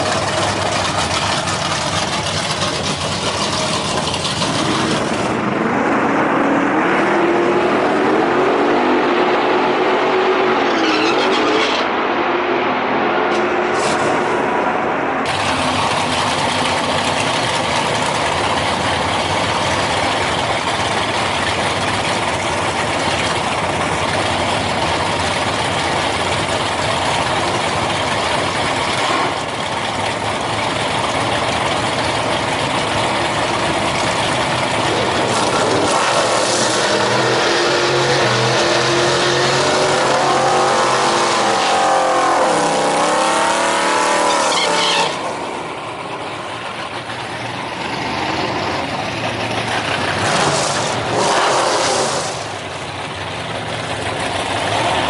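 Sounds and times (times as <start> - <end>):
drag racing engine revving: 0.0 - 55.0.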